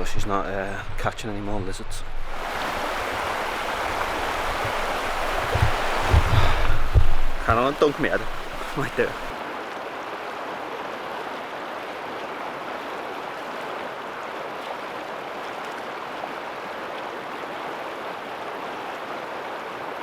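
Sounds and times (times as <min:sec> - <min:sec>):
running water rushing: 0:02.2 - 0:20.0.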